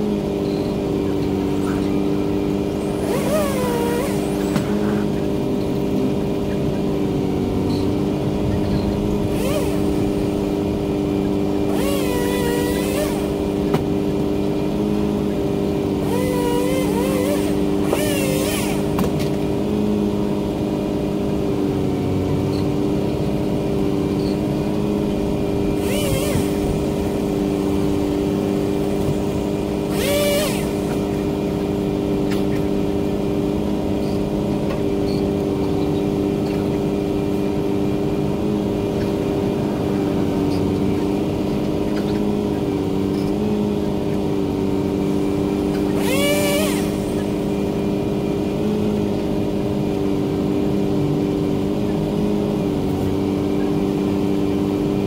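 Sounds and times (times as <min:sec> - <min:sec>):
chainsaw revving: 0:00.0 - 0:22.3, 0:22.9 - 0:55.0
truck engine running: 0:00.0 - 0:55.0.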